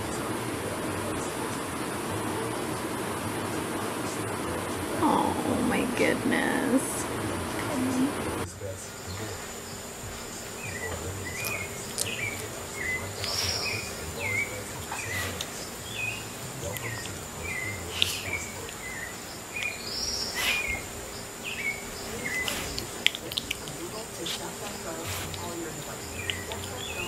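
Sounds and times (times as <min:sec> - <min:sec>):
longer arching calls: 0:00.0 - 0:27.0
thin high tone: 0:00.0 - 0:27.0.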